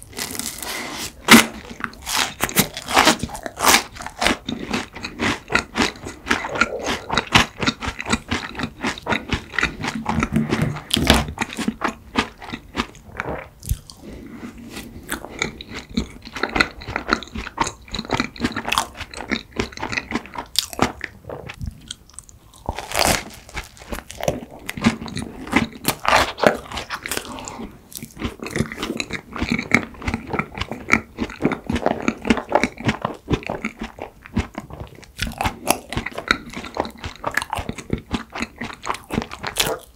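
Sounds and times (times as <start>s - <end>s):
chewing and crunching cake: 0.0s - 39.9s
wet mouth sounds: 0.0s - 39.9s.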